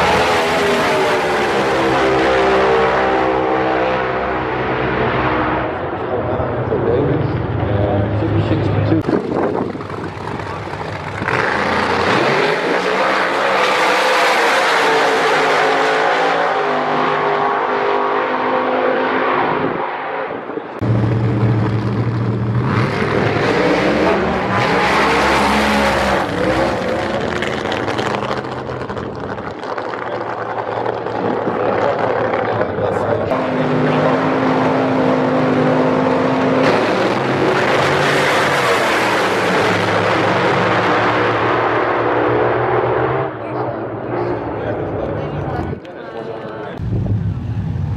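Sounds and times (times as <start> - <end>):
drag racing engines roaring: 0.0 - 47.9.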